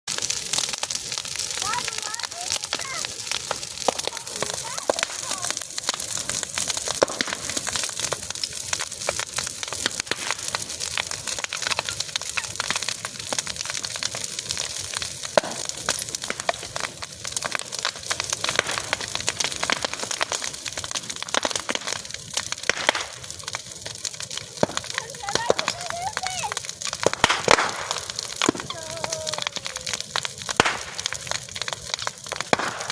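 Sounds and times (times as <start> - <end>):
bonfire crackling: 0.0 - 32.9.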